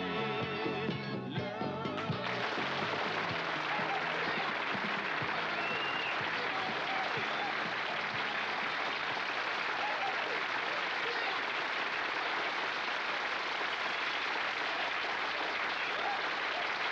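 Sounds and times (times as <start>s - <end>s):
audience applauding: 1.9s - 16.9s.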